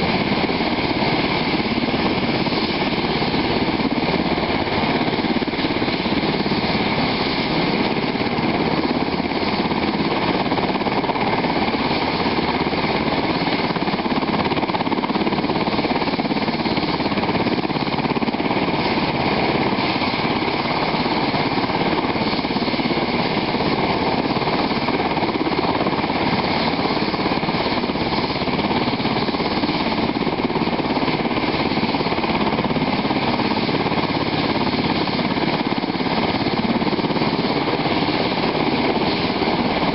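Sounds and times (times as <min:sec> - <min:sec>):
helicopter engines and rotor chop: 0:00.0 - 0:39.9.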